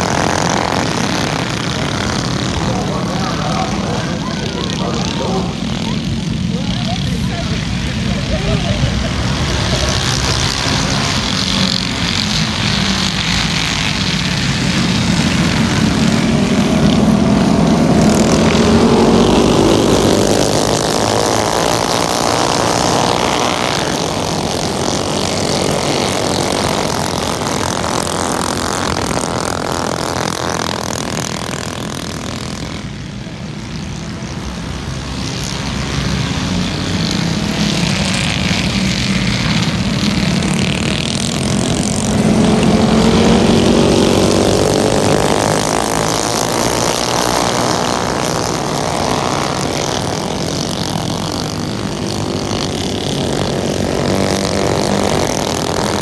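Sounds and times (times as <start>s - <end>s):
mini bike engines racing: 0.0s - 56.0s.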